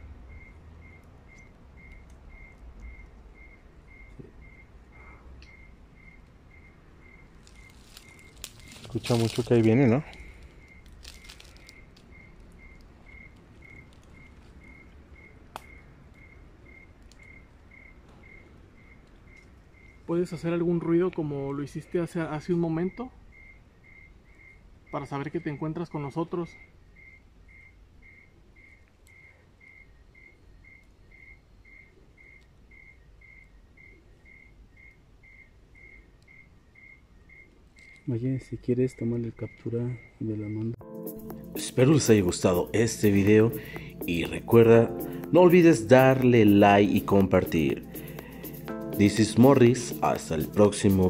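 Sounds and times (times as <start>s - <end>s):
cricket chirping: 0.0s - 51.0s.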